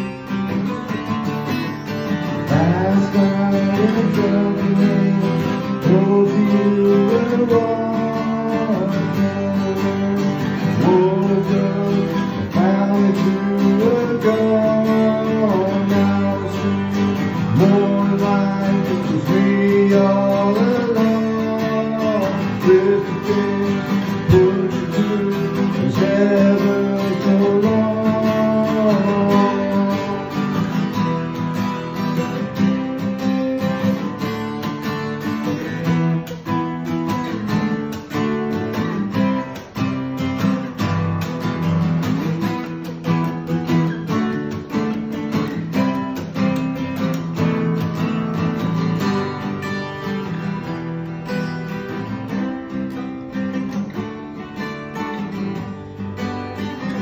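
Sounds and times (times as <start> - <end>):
acoustic guitars strumming: 0.0 - 57.0.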